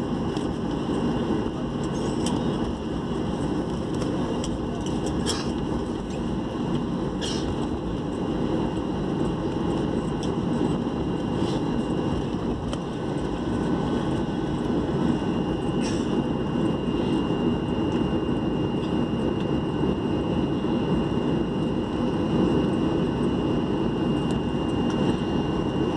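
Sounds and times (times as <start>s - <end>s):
airliner engine and wheels rumble: 0.0s - 25.9s
thin steady whine: 0.0s - 25.9s.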